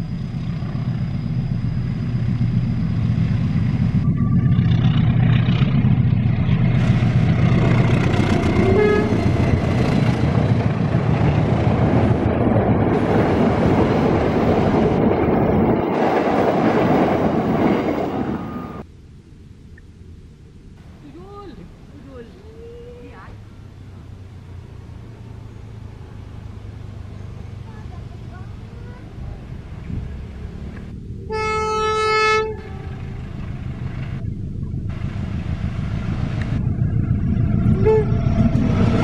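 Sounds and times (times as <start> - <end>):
train wheels rumbling on rails: 0.0 - 18.9, 25.8 - 39.0
locomotive engine drone: 0.0 - 39.0.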